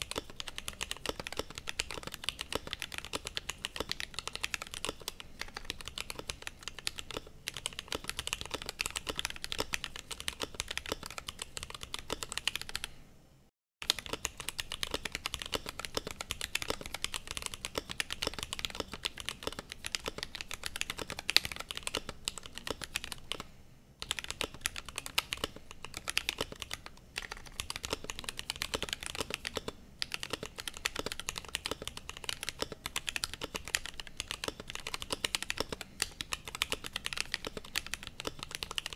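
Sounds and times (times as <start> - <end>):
mechanical keyboard typing: 0.0 - 12.9, 13.8 - 38.9.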